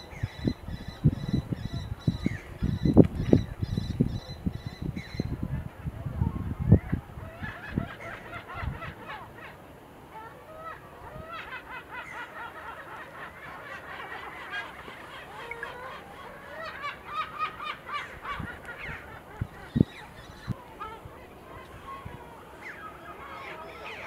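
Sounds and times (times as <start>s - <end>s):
gulls calling: 0.0s - 24.0s.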